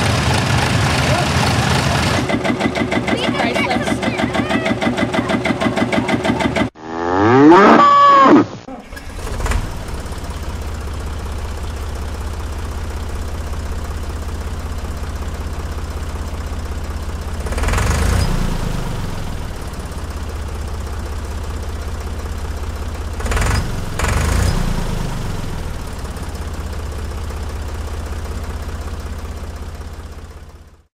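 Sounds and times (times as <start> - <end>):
tractor engine idling: 0.0 - 6.8, 8.7 - 30.9.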